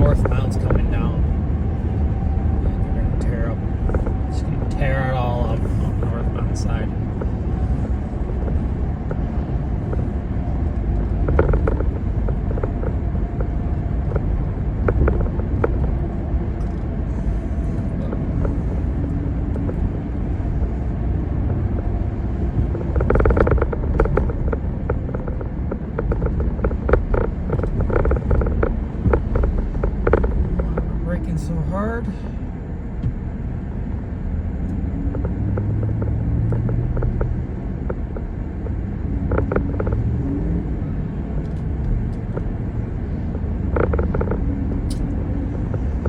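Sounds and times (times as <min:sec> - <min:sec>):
tyre and engine rumble: 0:00.0 - 0:46.0.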